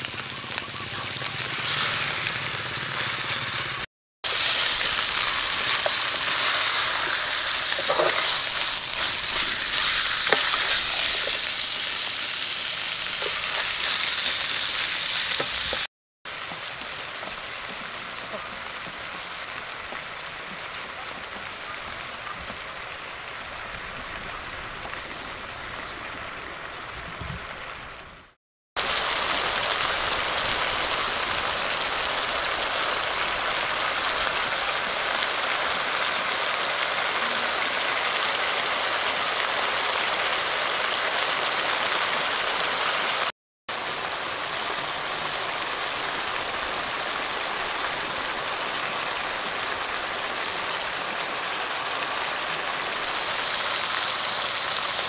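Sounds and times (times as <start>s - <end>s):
sauce bubbling and sizzling: 0.0s - 20.9s, 28.8s - 55.0s.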